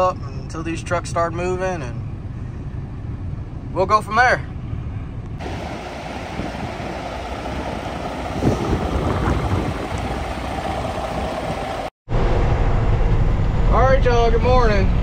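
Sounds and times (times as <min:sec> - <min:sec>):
diesel truck engine rumble: 0:00.0 - 0:15.0.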